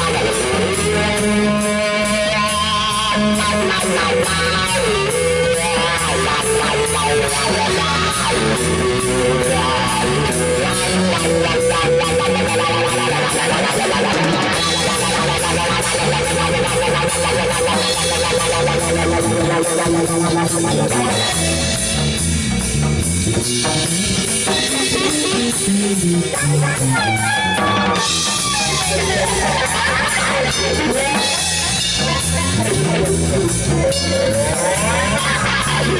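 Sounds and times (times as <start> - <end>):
drum kit: 0.0 - 35.9
electric bass guitar: 0.0 - 35.9
electric guitar: 0.0 - 35.9.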